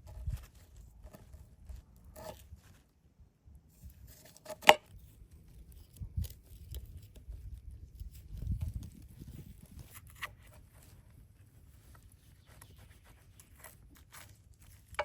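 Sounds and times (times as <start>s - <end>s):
clicks and rustles of handling: 0.0s - 3.0s, 3.8s - 15.0s.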